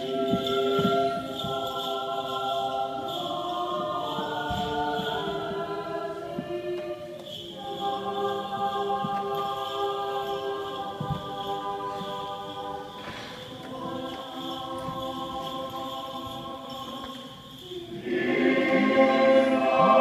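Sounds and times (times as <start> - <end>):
choir singing unaccompanied chant: 0.0 - 20.0.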